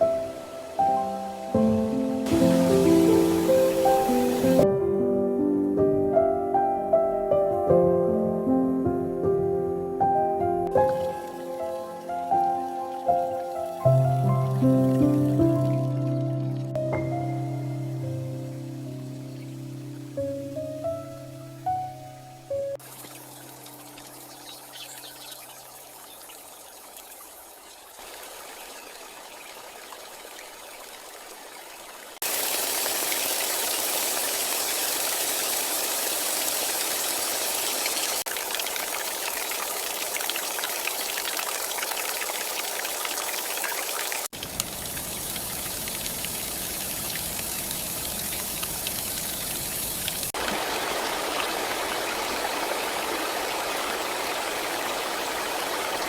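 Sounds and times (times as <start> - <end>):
rushing water with hiss: 0.0 - 4.7, 10.7 - 56.0.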